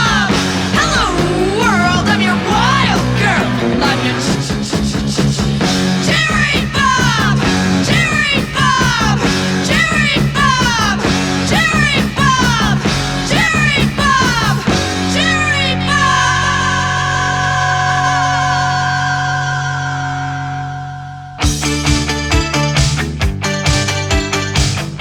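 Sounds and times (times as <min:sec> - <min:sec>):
rock music from vinyl record: 0:00.0 - 0:16.5, 0:21.4 - 0:25.0.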